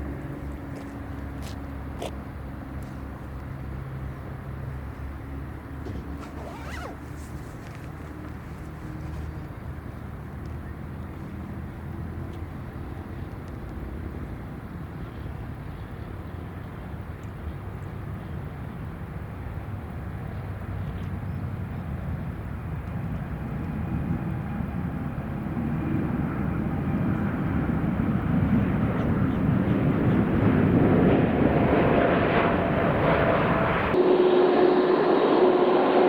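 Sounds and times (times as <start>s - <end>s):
airliner engines rumbling: 0.0s - 36.0s.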